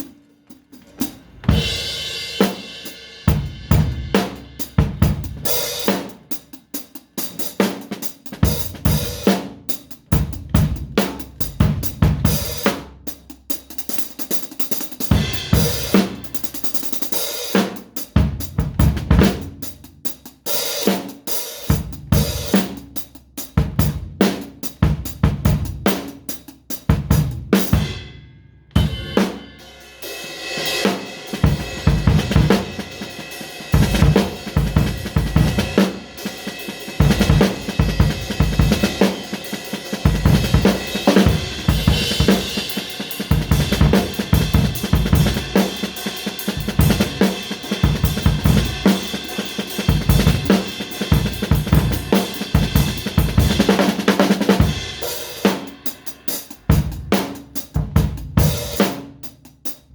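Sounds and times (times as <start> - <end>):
drum kit playing: 0.0 - 59.9.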